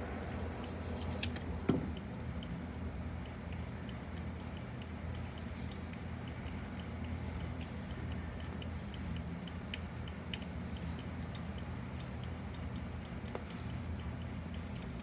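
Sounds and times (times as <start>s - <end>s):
crab mouthparts ticking and crunching: 0.0s - 15.0s
steady low hum: 0.0s - 15.0s
sharp clicks: 0.2s - 15.0s.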